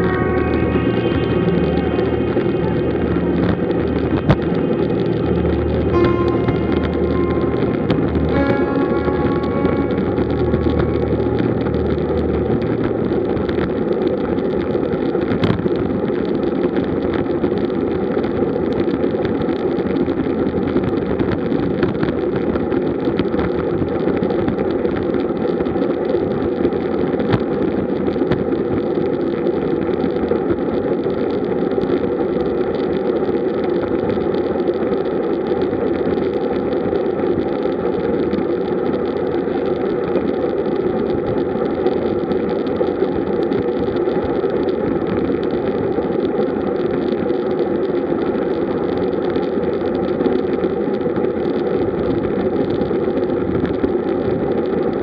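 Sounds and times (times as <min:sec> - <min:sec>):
wind on microphone: 0:10.1 - 0:55.0
bicycle tyre and road noise: 0:10.5 - 0:55.0.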